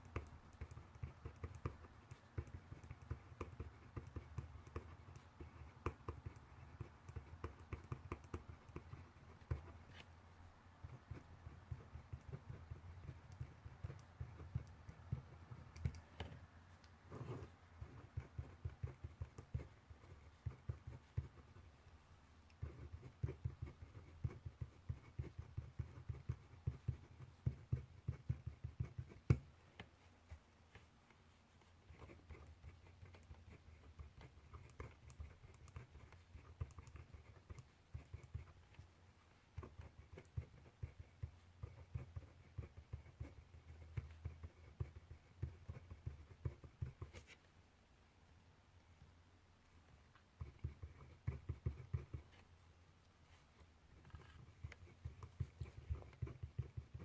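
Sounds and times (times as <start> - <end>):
pen scratching on paper: 0.0 - 10.2, 10.8 - 16.4, 17.0 - 47.5, 50.4 - 52.6, 53.3 - 57.0.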